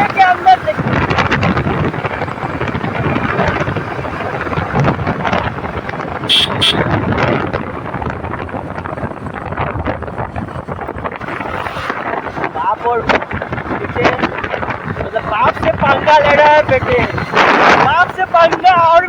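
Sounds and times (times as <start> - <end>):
motorcycle engine running: 0.0 - 18.2
wind buffeting microphone: 0.0 - 19.0.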